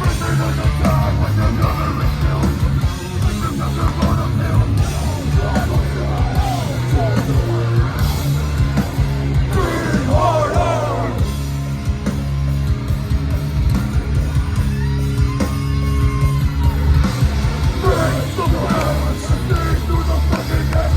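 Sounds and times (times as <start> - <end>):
heavy band playing live: 0.0 - 20.9.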